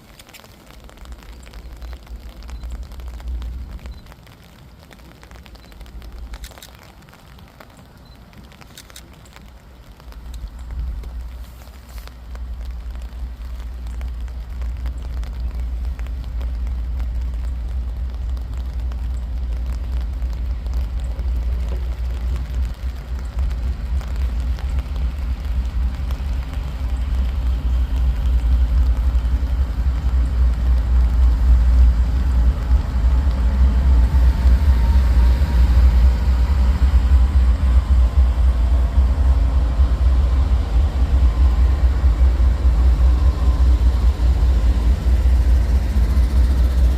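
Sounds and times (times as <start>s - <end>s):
diesel locomotive engine rumble: 0.0s - 46.9s
faint whine: 0.0s - 46.9s.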